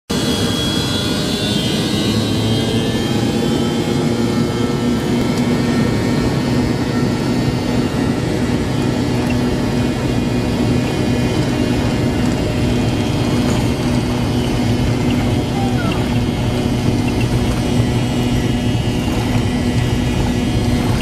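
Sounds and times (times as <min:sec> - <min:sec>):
jet engines humming in cabin: 0:00.1 - 0:21.0.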